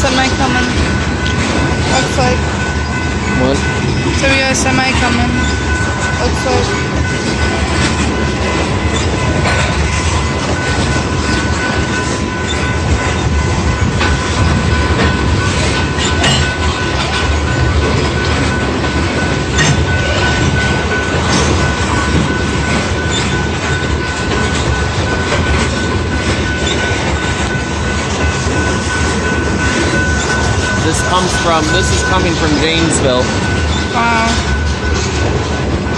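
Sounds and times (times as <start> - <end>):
train rumble: 0.0 - 35.9
train wheels clacking on rails: 0.0 - 35.9.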